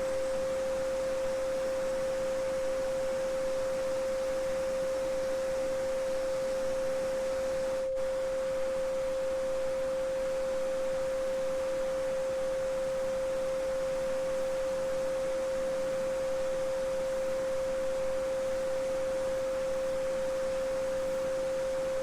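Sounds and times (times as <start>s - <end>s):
pure sine tone: 0.0s - 22.0s.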